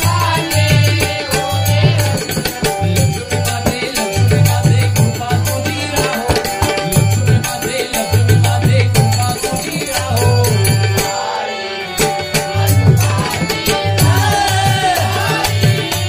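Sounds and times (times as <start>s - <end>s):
hand drums playing fast rhythm: 0.0s - 11.4s, 12.0s - 16.0s
person singing: 0.0s - 16.0s.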